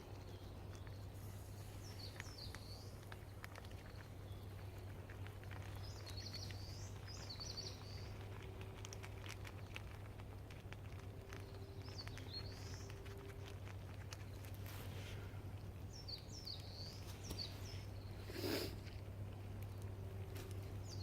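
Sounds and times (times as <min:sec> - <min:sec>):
small crackles and clicks: 0:00.0 - 0:21.0.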